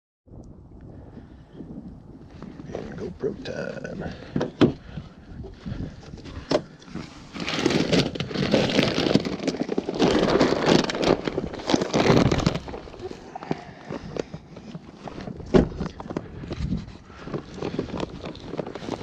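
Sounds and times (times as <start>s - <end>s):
dense crackling and rustling: 2.2s - 19.0s.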